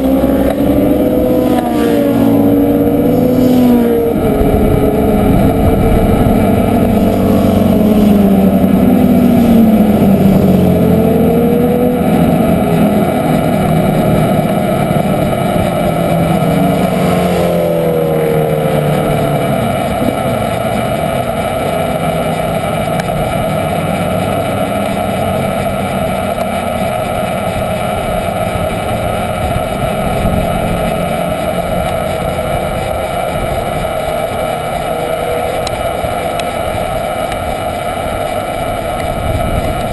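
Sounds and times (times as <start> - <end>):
rush of wind: 0.0 - 39.9
superbike engines running: 0.0 - 39.9.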